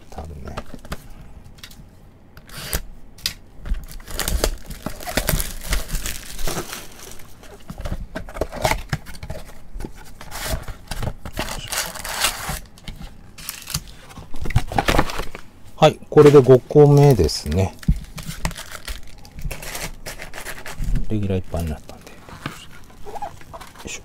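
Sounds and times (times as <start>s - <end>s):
cardboard crinkling and tearing: 3.8s - 15.4s, 16.2s - 24.0s.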